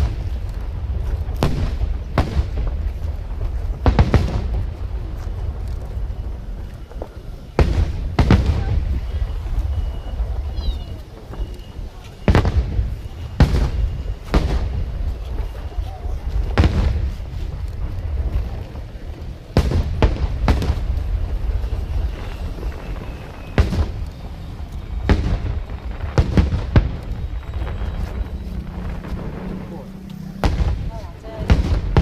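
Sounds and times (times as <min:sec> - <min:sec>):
continuous low rumble: 0:00.0 - 0:32.0
fireworks booming: 0:00.0 - 0:32.0.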